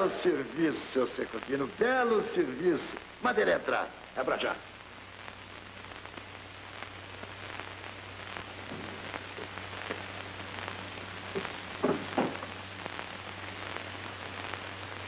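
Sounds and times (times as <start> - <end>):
film soundtrack hiss and crackle: 0.0 - 15.0
steady low hum: 0.0 - 15.0.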